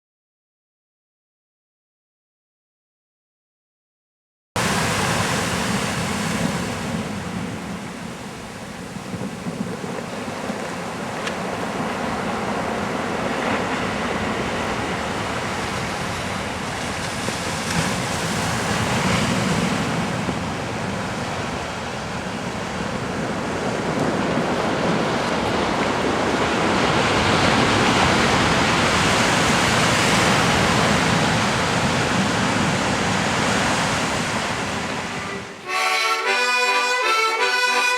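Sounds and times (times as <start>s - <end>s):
sea waves washing on shore: 4.6s - 37.9s.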